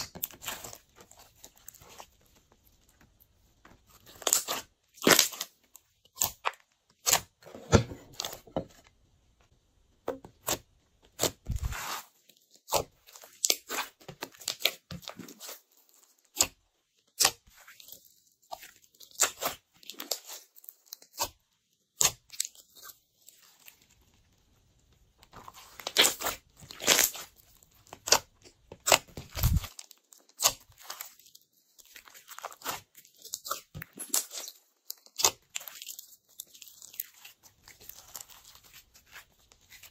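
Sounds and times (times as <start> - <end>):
slime squelching and popping: 0.0 - 7.4, 10.0 - 39.9.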